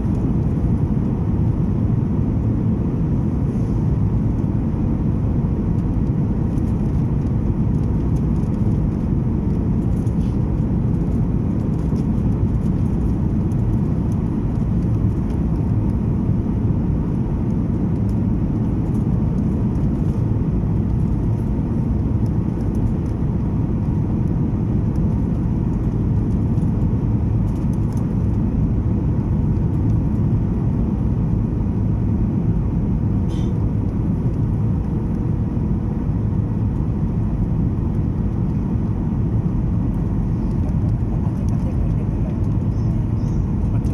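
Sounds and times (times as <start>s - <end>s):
cabin airflow and engine hum: 0.0s - 43.9s.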